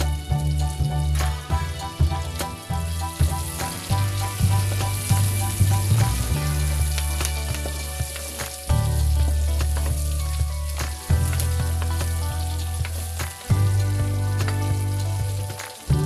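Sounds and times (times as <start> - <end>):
background music with low notes: 0.0 - 16.0
meat and onions sizzling in a wok: 0.0 - 16.0.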